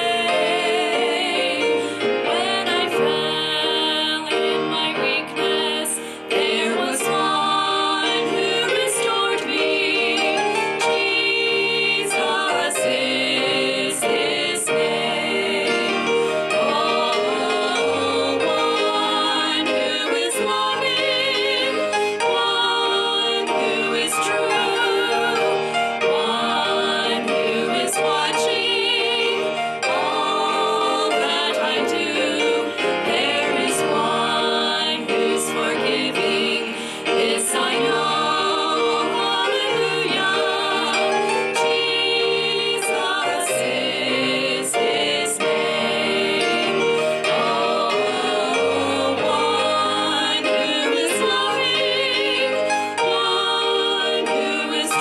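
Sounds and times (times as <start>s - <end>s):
women singing gospel in harmony: 0.0s - 55.0s.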